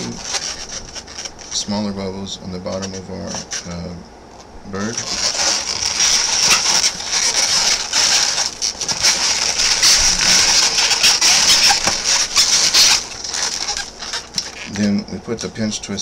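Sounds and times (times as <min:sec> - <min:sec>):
balloons squeaking: 0:00.0 - 0:01.9, 0:02.6 - 0:03.9, 0:04.8 - 0:15.0.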